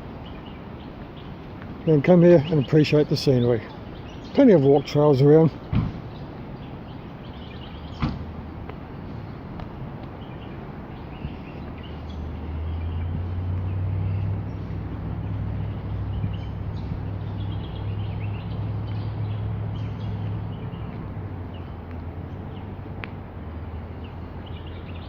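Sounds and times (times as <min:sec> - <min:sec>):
vehicle engine drone: 0:00.0 - 0:25.0
small birds chirping: 0:00.1 - 0:25.0.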